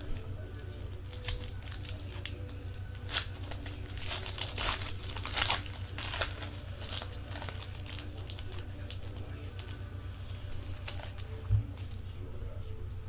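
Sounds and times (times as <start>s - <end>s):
steady low hum: 0.0s - 13.0s
foil pack tearing and crinkling: 0.9s - 12.0s.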